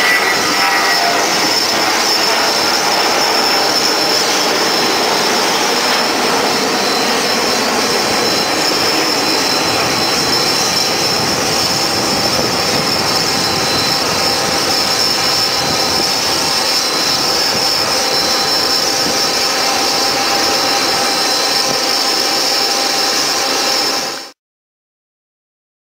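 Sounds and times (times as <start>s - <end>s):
high engine whine: 0.0s - 24.4s
jet engines at takeoff power: 0.0s - 24.4s.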